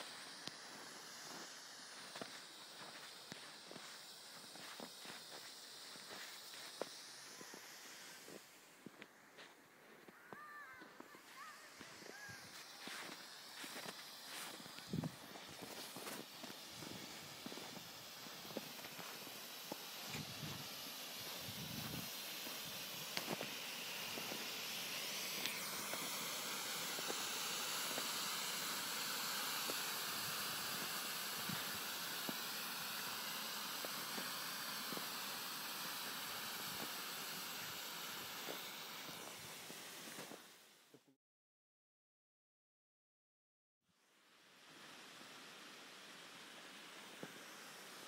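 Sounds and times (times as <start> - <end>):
smoke pot hissing: 0.0 - 41.1, 44.0 - 48.0.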